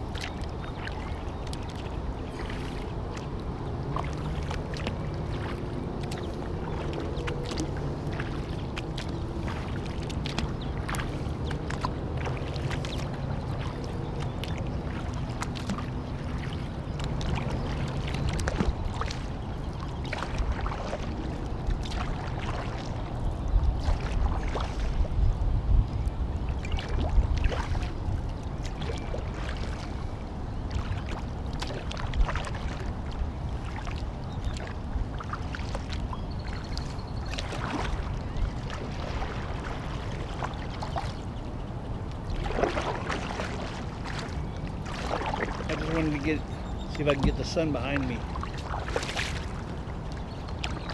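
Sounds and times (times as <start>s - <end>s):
kayak paddle splashing: 0.0s - 50.9s
water lapping at hull: 0.0s - 50.9s.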